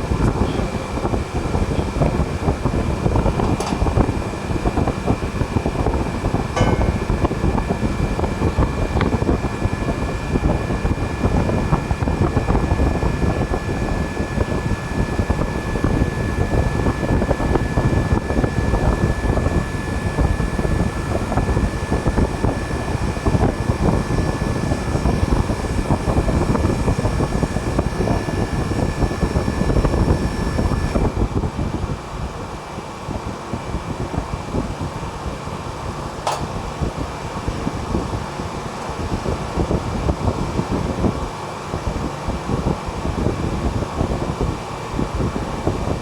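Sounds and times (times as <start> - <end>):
refrigeration fan and compressor: 0.0 - 46.0
thin steady whines: 0.0 - 46.0.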